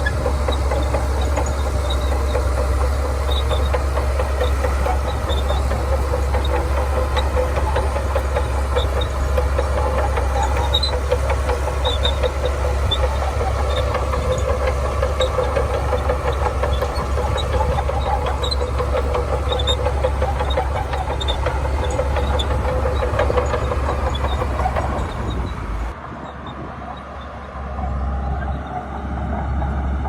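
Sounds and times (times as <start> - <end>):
fast clatter: 0.0 - 26.0
bulldozer diesel engine: 0.0 - 30.0.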